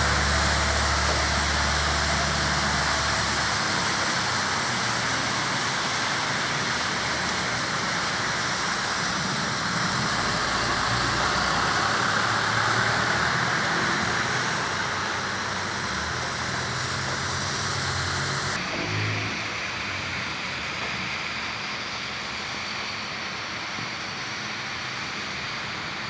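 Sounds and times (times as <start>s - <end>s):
road traffic engines humming: 0.0s - 23.7s
rain hissing: 0.0s - 26.0s.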